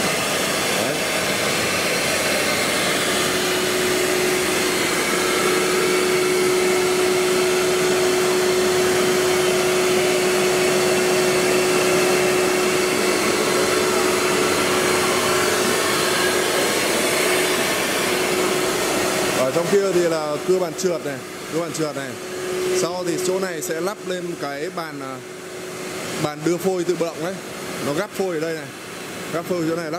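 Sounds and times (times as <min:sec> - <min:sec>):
mid-pitched machine whine: 0:00.0 - 0:29.9
wood router whirring: 0:00.0 - 0:29.9.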